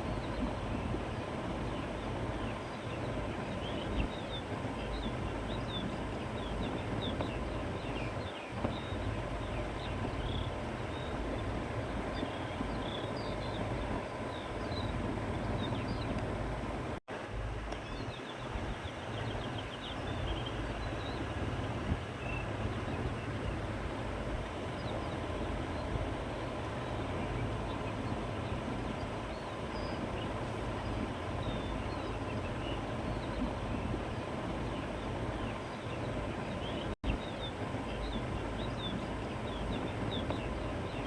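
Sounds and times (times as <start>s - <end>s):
small birds chirping: 0.0s - 16.6s, 17.7s - 41.0s
wind blowing steadily: 0.0s - 41.0s.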